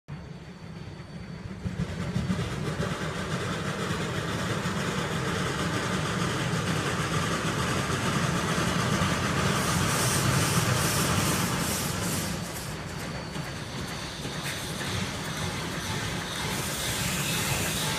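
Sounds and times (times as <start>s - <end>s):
rhythmic steam hissing: 0.1s - 17.9s
steam locomotive rumbling: 0.1s - 17.9s.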